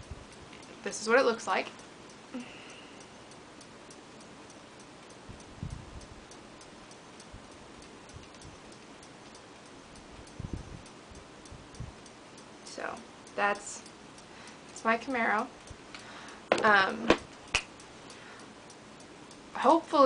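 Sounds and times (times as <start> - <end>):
faint even ticking: 0.0 - 20.0.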